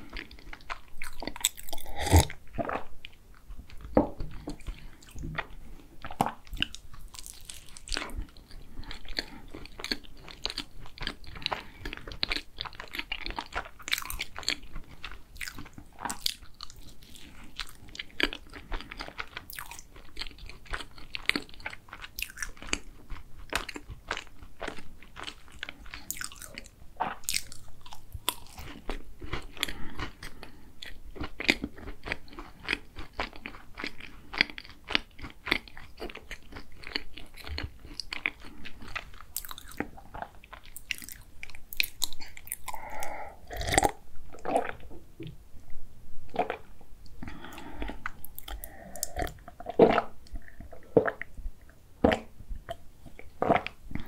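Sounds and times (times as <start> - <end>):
crunchy pastry chewing: 0.0 - 44.9.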